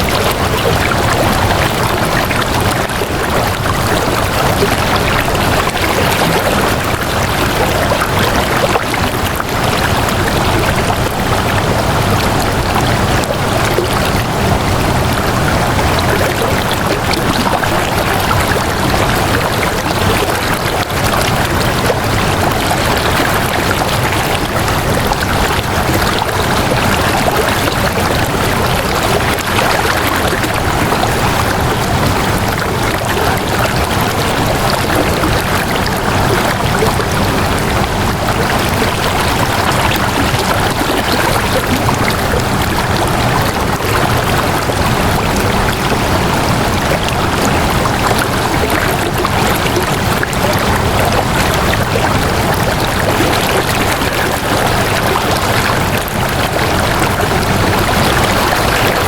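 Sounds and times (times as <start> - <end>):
water flowing steadily: 0.0 - 59.0.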